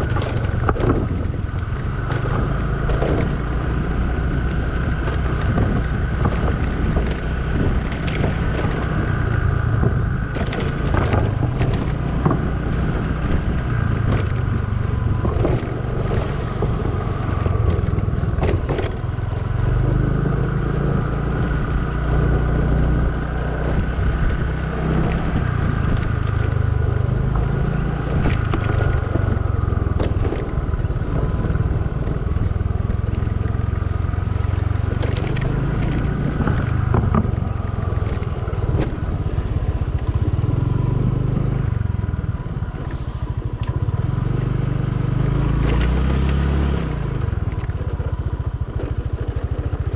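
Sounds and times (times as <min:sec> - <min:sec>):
scooter engine running: 0:00.0 - 0:49.9
wind buffeting microphone: 0:00.0 - 0:49.9.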